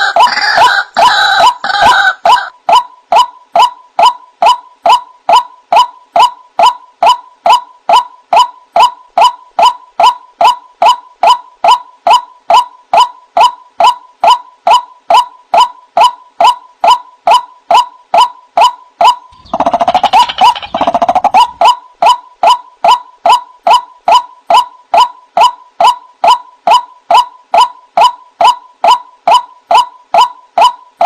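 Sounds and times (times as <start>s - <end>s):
waterhen repeated call: 0.0s - 30.8s.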